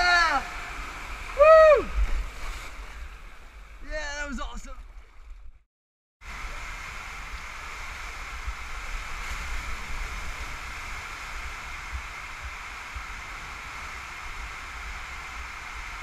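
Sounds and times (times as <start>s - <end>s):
water rushing in slide tube: 0.0s - 5.4s, 6.2s - 16.0s.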